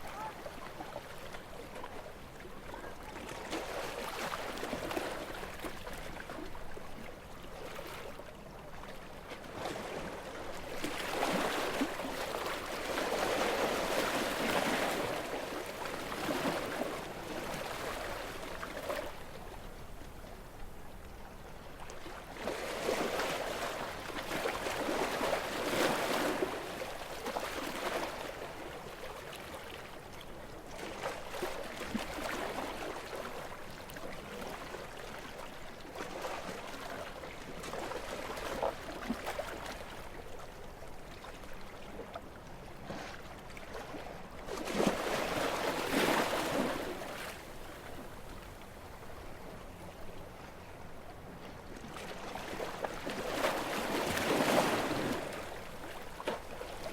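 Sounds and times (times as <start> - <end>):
gentle waves lapping on shore: 0.0 - 56.9.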